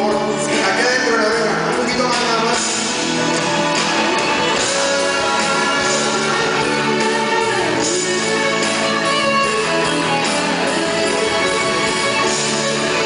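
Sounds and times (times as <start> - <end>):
live band playing pop ballad: 0.0 - 13.0.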